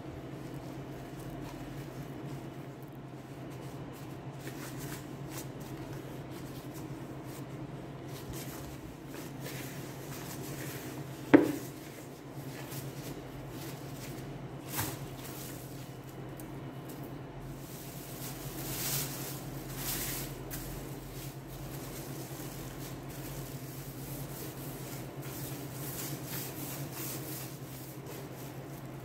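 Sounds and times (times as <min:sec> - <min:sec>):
dough kneaded in plastic bowl: 0:00.0 - 0:29.0
steady low hum: 0:00.0 - 0:29.0.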